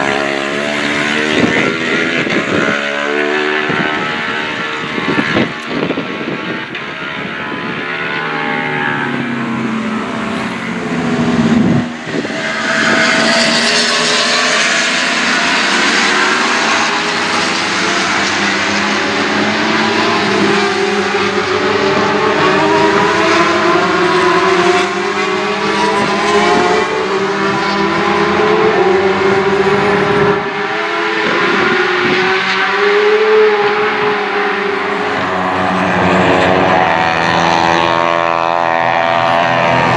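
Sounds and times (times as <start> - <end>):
racing motorcycles passing: 0.0 - 39.9.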